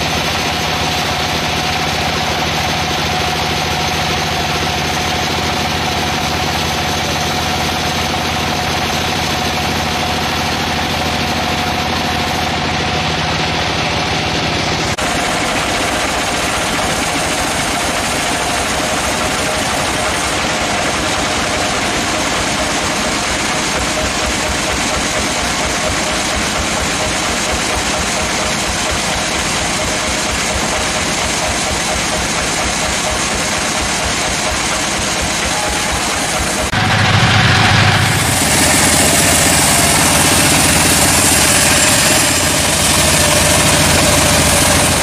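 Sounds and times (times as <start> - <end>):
sawmill machinery running: 0.0 - 45.0
steady machine whine: 0.0 - 45.0.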